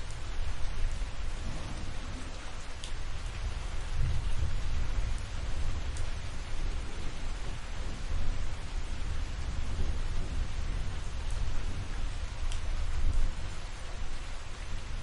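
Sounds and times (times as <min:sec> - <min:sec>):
low thunder rumbling: 0:00.0 - 0:15.0
steady rain falling: 0:00.0 - 0:15.0.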